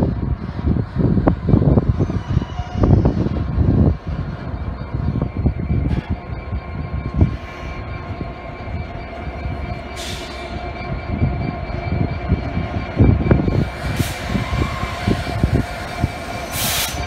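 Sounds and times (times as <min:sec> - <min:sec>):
diesel locomotive engine drone: 0:00.0 - 0:17.0
locomotive whine: 0:00.0 - 0:17.0.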